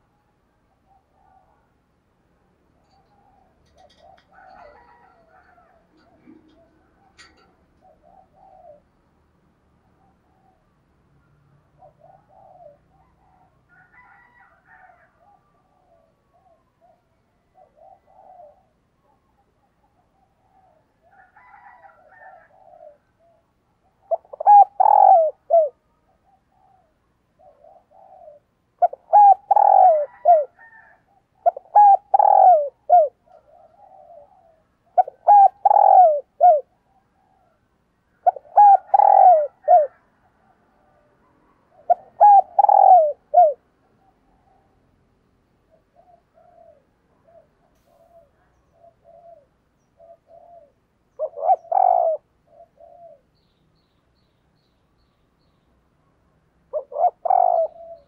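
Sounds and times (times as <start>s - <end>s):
dove cooing: 0.0s - 1.8s, 2.7s - 10.8s, 11.6s - 44.8s, 45.6s - 53.5s, 56.7s - 58.0s.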